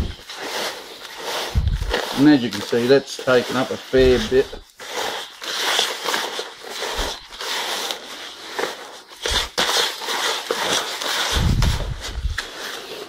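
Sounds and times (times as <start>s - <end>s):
gritty mix scraped in a bucket: 0.0s - 13.0s.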